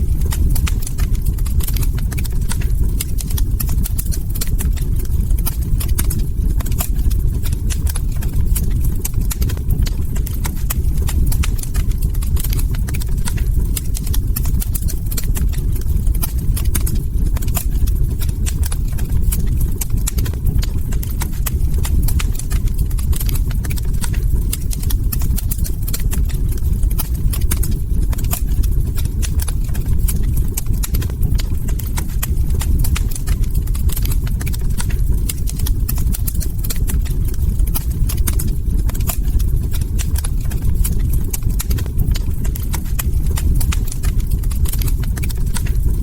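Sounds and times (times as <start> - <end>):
burning wood crackling and popping: 0.0 - 46.0
low rumble of flames: 0.0 - 46.0.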